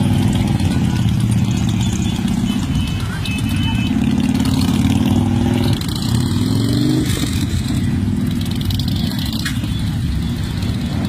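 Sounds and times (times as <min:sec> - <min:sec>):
motorcycle engine revving: 0:00.0 - 0:11.0
motorcycle engines running: 0:00.0 - 0:11.0.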